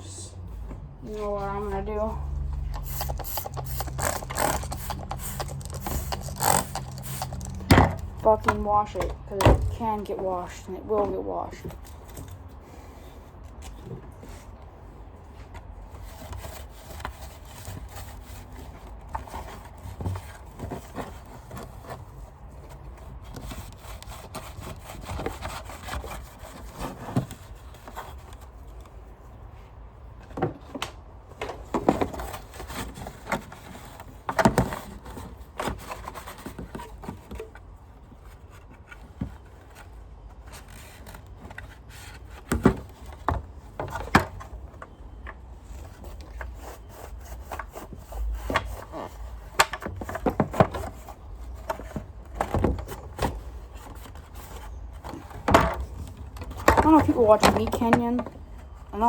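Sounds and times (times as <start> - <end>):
rubbing and scraping: 1.0 - 29.8, 31.6 - 44.8, 45.6 - 59.0.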